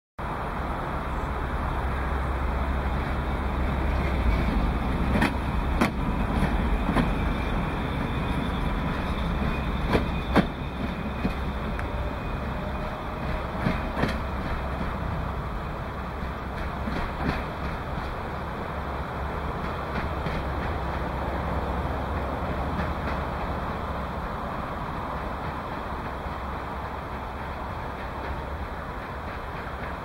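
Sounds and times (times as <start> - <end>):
train wheels rumbling: 0.2 - 30.0
wheels clacking over rail joints: 2.6 - 30.0.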